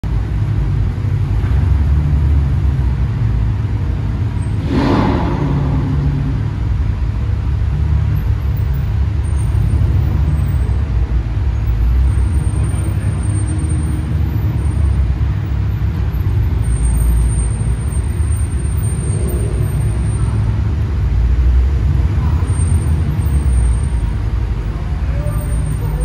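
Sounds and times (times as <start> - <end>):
car engines rumbling: 0.0 - 26.0.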